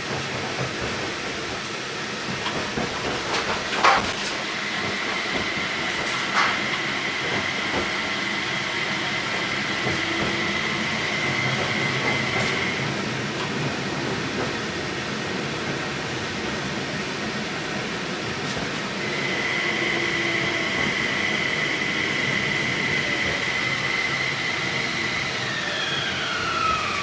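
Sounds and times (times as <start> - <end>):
track clacks: 0.0 - 25.6
tram rolling rumble: 0.0 - 27.0.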